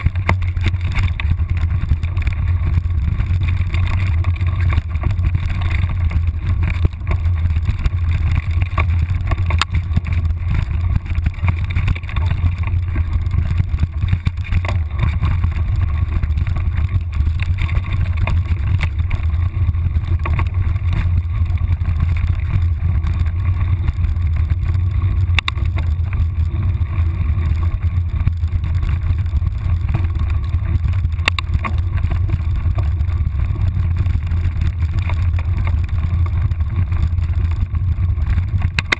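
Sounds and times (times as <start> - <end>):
wind and vibration rumble: 0.0 - 38.9.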